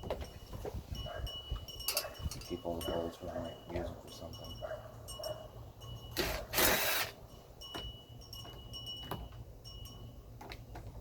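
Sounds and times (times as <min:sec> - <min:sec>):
faint high metallic ringing: 0:00.2 - 0:06.3, 0:07.2 - 0:10.4.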